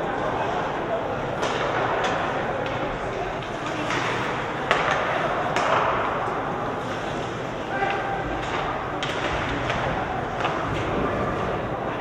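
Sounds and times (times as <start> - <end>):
spectator chatter: 0.0 - 12.0
hockey sticks clacking on puck: 1.3 - 12.0.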